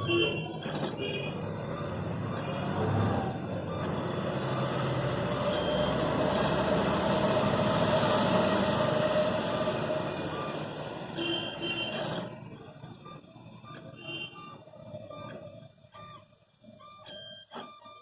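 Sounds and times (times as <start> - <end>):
stepper motors whining: 0.0 - 18.0.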